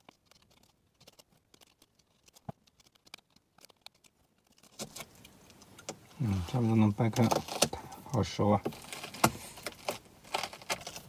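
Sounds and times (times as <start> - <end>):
watermelon rind crackling: 0.0 - 11.0.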